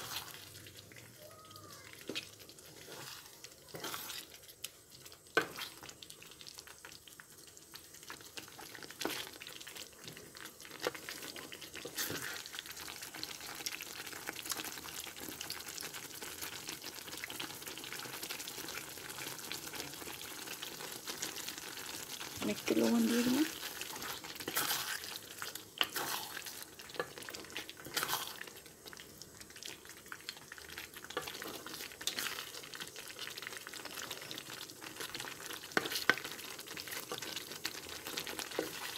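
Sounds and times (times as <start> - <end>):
pickle bubbling and sizzling: 0.0 - 38.9.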